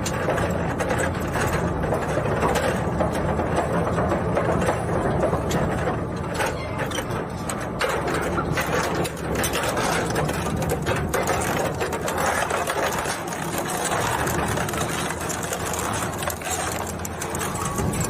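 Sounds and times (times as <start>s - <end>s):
plastic crackling and clattering: 0.0s - 18.0s.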